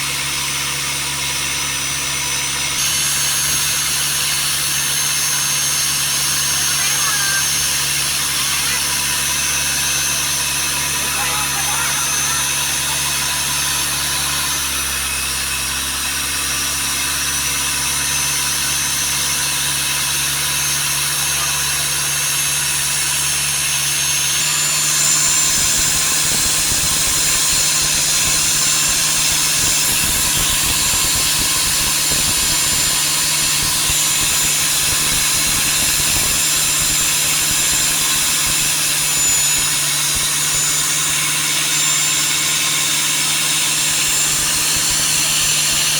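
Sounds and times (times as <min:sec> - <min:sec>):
boat engine running: 0:02.5 - 0:45.9.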